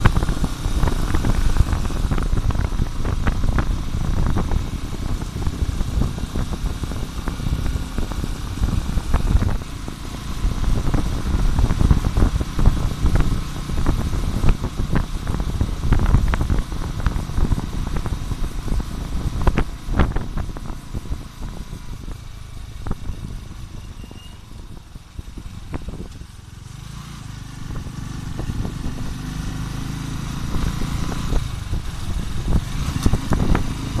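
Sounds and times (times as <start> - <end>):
wind buffeting microphone: 0.0 - 24.0, 27.6 - 34.0
motorcycle engine rumble: 0.0 - 34.0.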